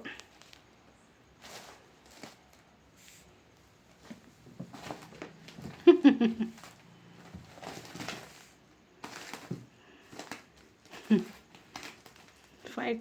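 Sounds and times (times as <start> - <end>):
cats scuffling: 0.0 - 12.8.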